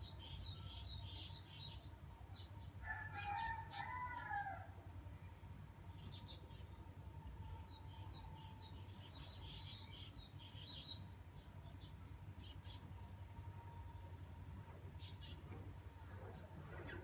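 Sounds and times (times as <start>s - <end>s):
small birds chirping: 0.0s - 4.0s, 5.8s - 6.8s, 7.4s - 14.3s, 14.9s - 17.0s
faint low hum: 0.0s - 17.0s.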